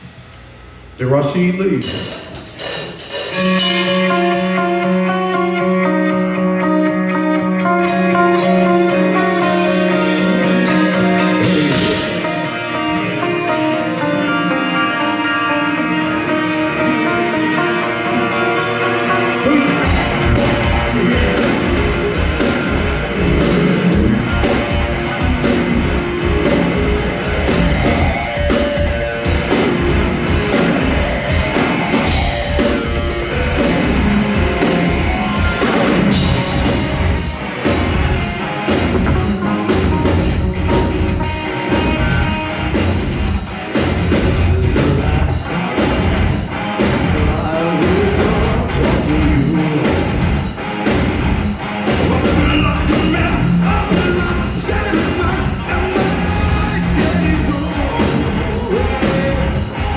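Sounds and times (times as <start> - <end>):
distorted electric guitars: 1.6 - 59.9
drum kit: 1.6 - 59.9
bass guitar: 1.8 - 59.9.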